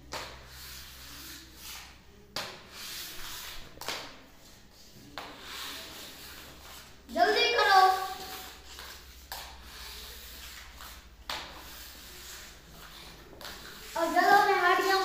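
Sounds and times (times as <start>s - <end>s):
mop pushed across tiled floor: 0.3s - 15.0s.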